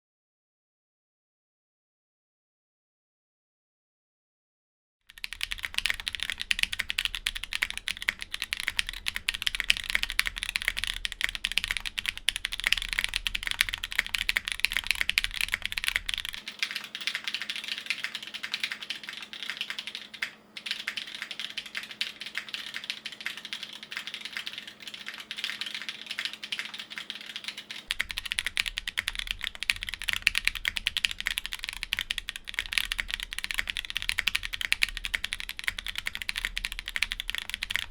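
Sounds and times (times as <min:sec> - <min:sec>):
fast typing on mechanical keyboard: 0:05.1 - 0:37.9.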